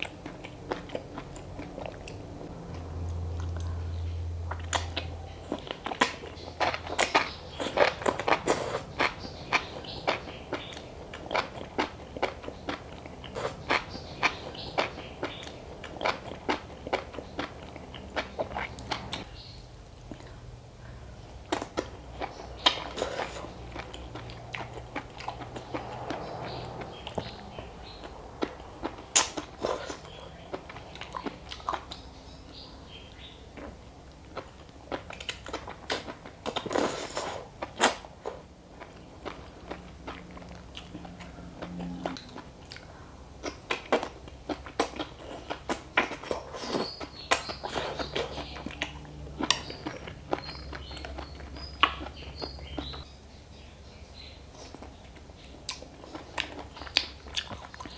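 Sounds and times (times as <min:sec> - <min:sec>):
person chewing crunchy food: 0:00.0 - 0:03.8, 0:04.4 - 0:19.3, 0:21.4 - 0:32.1, 0:32.9 - 0:53.1, 0:54.5 - 0:57.9.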